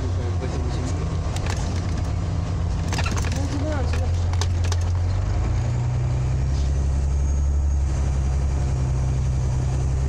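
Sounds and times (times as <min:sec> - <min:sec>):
bus engine droning: 0:00.0 - 0:10.0.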